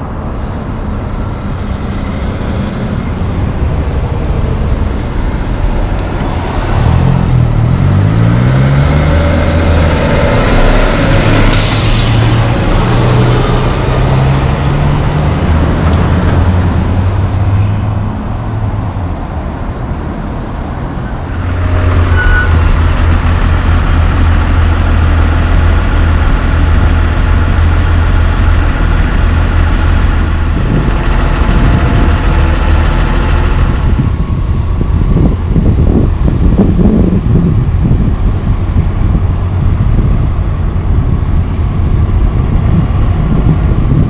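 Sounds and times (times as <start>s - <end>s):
boom lift engine droning: 0.0s - 18.4s, 21.1s - 44.0s
diesel truck engine pulling away: 0.0s - 18.4s, 21.1s - 44.0s.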